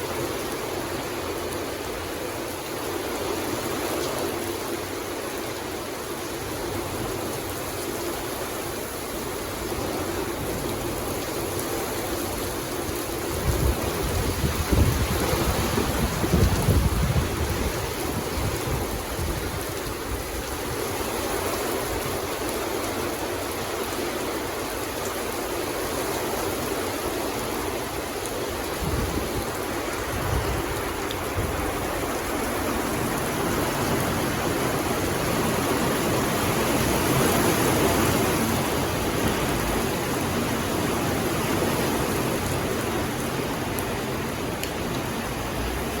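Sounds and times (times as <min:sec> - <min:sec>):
rain falling in a forest: 0:00.0 - 0:46.0.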